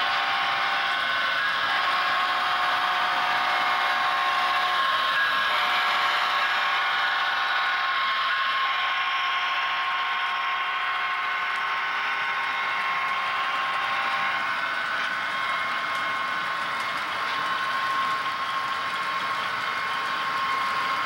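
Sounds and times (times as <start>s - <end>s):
model train mechanical hum: 0.0s - 21.0s.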